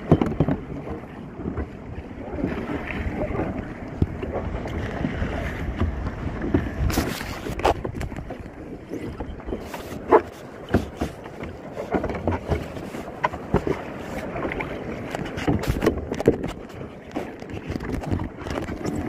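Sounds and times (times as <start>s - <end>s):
water splashing against kayak: 0.0s - 19.0s
wind buffeting microphone: 0.0s - 19.0s.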